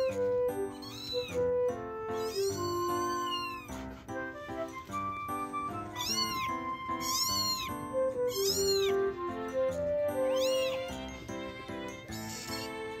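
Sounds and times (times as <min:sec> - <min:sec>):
kitten meowing: 0:00.0 - 0:03.8, 0:05.4 - 0:09.4, 0:10.2 - 0:13.0.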